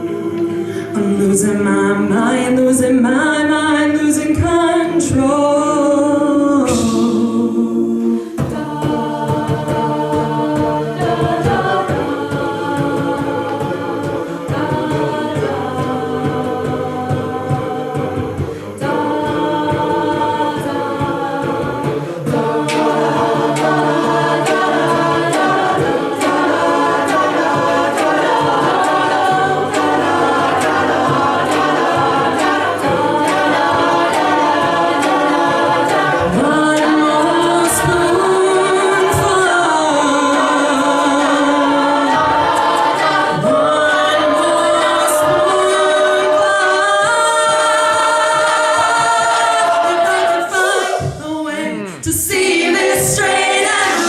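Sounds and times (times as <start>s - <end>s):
voices singing harmonies: 0.0s - 54.0s.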